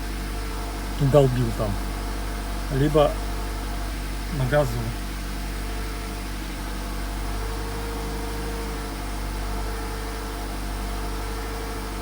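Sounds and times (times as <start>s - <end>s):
car engine running: 0.0s - 12.0s
steady whine: 0.0s - 12.0s.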